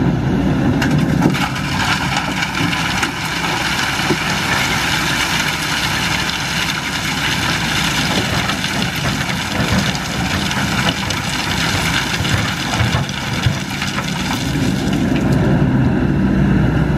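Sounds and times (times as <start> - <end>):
excavator diesel engine running: 0.0 - 16.9
stones clattering into truck bed: 0.8 - 15.5.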